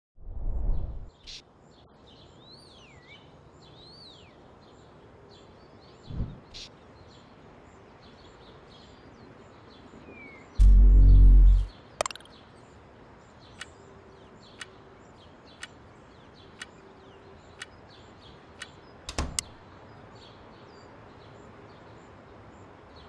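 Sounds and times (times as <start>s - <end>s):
outdoor background noise: 0.2s - 23.0s.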